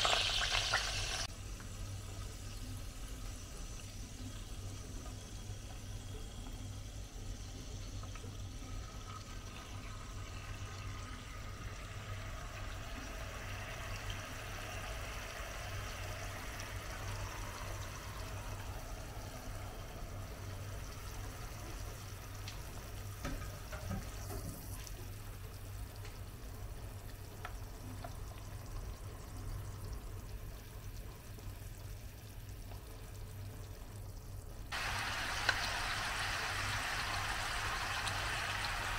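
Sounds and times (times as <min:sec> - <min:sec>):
sauce sizzling in frying pan: 0:00.0 - 0:38.9.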